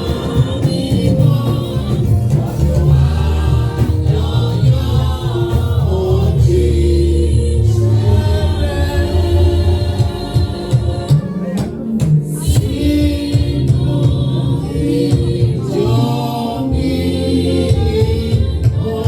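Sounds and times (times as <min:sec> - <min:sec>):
choir singing gospel music: 0:00.0 - 0:19.0
steady bass beat: 0:00.0 - 0:19.0.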